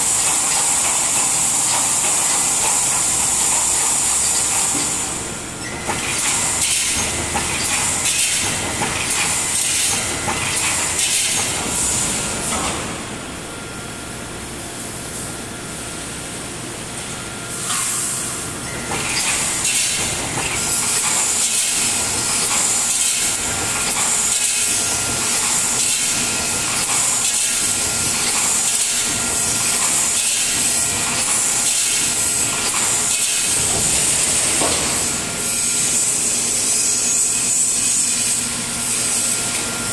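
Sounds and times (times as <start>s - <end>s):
steady machine hiss: 0.0s - 13.6s, 17.5s - 39.9s.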